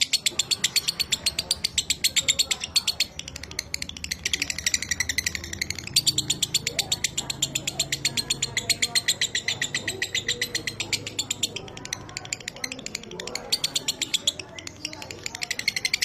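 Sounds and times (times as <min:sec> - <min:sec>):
lovebird chattering song: 0:00.0 - 0:16.0.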